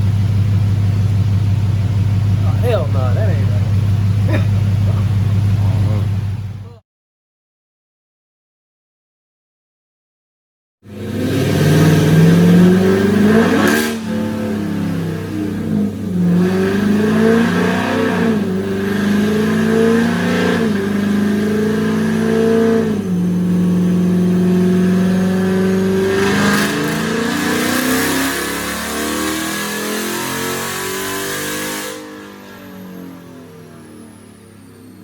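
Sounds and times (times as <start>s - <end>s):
car engine revving: 0.0s - 6.8s, 10.9s - 35.0s.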